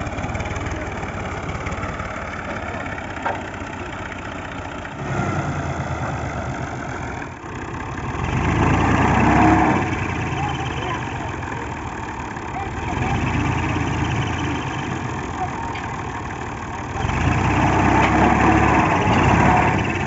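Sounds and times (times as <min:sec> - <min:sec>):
tractor diesel engine chugging: 0:00.0 - 0:20.0.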